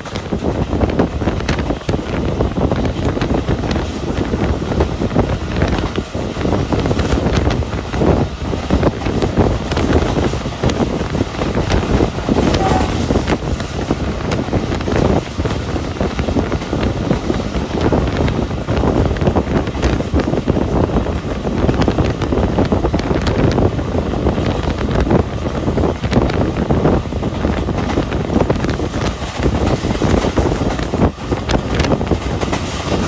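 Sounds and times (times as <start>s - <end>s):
train wheels clattering on rails: 0.0s - 33.0s
wind buffeting microphone: 0.0s - 33.0s.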